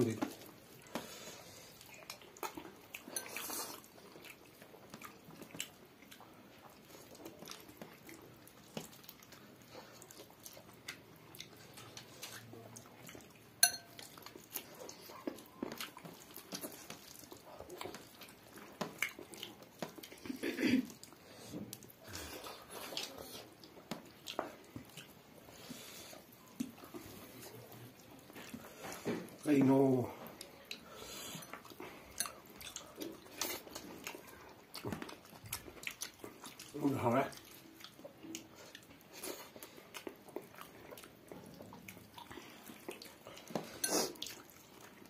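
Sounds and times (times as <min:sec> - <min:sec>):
chewing and lip smacks: 0:00.2 - 0:29.4, 0:30.2 - 0:45.0.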